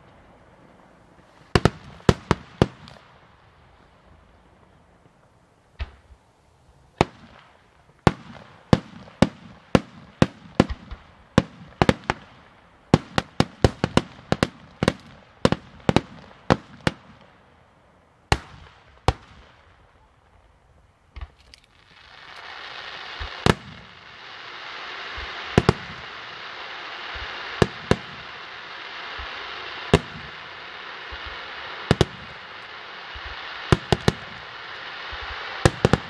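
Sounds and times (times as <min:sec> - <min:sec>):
fireworks bursting with bangs: 0:00.0 - 0:06.2, 0:06.9 - 0:17.6, 0:18.2 - 0:36.0.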